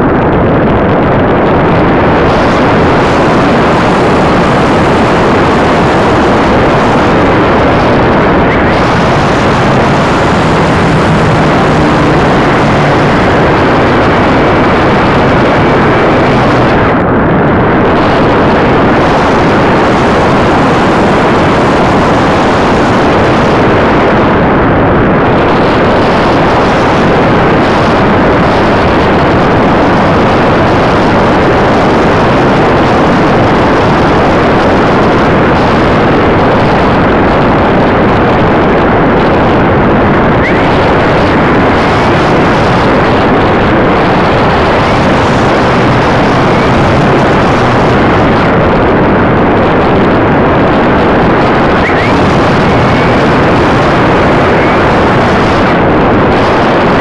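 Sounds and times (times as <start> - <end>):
air rushing over microphone: 0.0 - 57.0.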